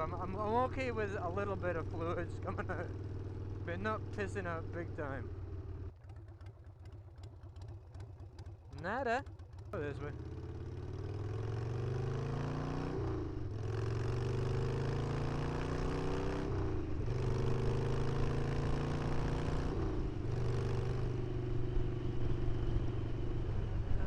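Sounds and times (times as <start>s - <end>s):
motorcycle accelerating through gears: 0.0s - 24.0s.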